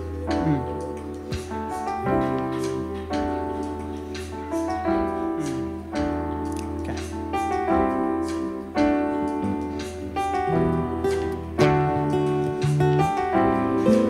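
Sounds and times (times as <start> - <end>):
acoustic guitar: 0.0 - 14.0
piano chords on keyboard: 0.0 - 14.0.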